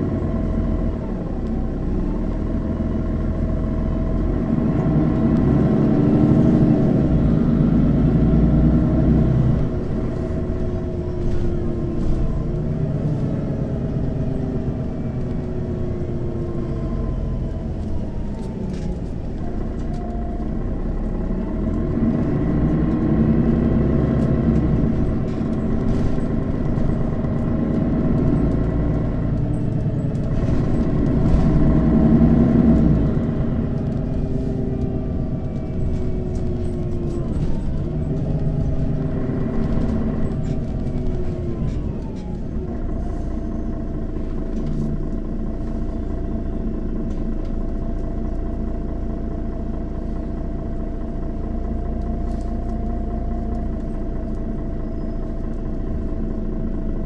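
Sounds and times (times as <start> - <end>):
bus diesel engine accelerating: 0.0 - 57.0
gliding engine whine: 0.0 - 57.0.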